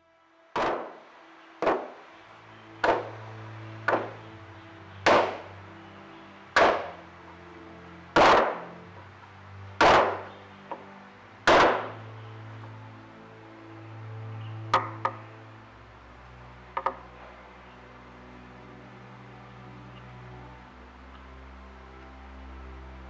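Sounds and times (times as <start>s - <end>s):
soft background music: 0.0s - 23.0s.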